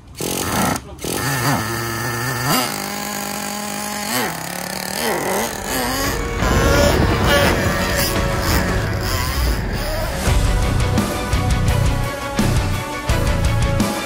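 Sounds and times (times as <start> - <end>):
nitro engine idling and revving: 0.0 - 13.9.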